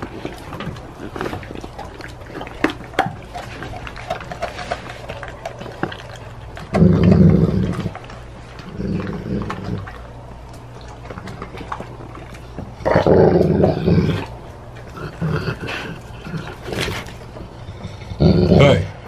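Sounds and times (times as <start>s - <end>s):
wet chewing and smacking: 0.0s - 18.2s
dog growling: 0.0s - 19.0s.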